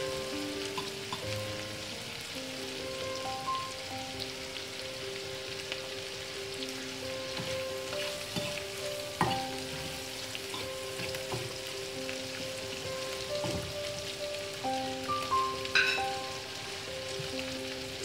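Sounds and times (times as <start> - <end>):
food sizzling in oil: 0.0 - 18.0.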